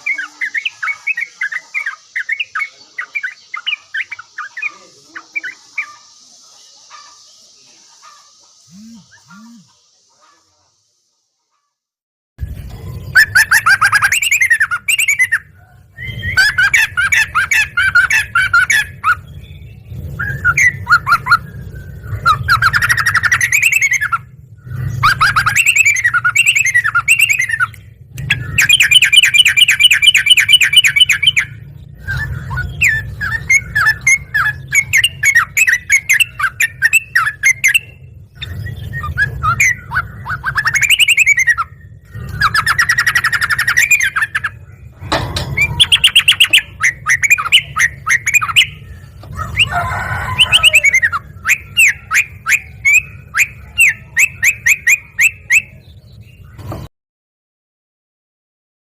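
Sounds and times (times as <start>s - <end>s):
bird trill: 0.0s - 10.4s, 12.4s - 56.9s
bird chattering song: 0.0s - 10.6s, 12.4s - 56.9s.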